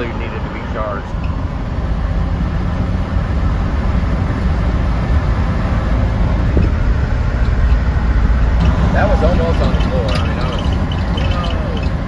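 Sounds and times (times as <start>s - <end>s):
road noise: 0.0s - 12.0s
truck engine revving hard: 0.0s - 12.0s.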